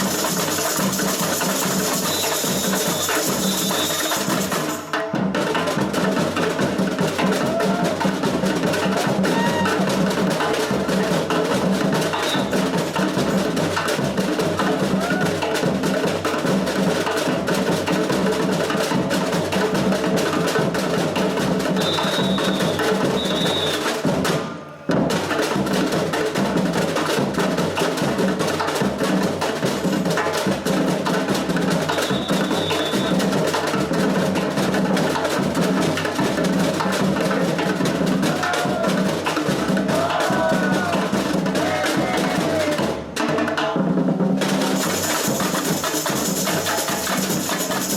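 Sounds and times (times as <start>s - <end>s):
samba percussion band playing: 0.0s - 47.9s.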